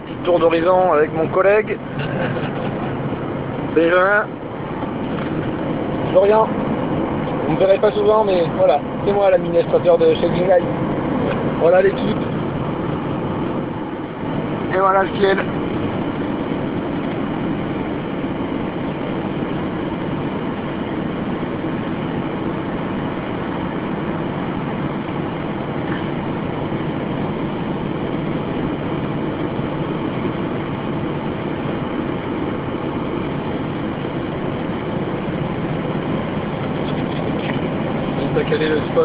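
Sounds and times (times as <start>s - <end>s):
car driving on road: 0.0s - 39.0s.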